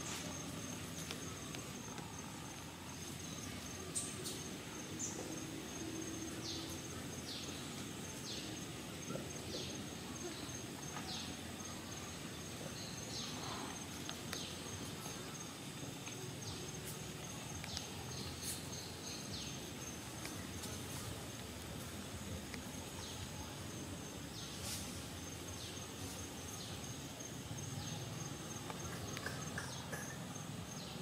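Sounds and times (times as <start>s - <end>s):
high insect drone: 0.0s - 31.0s
low background hiss: 0.0s - 31.0s.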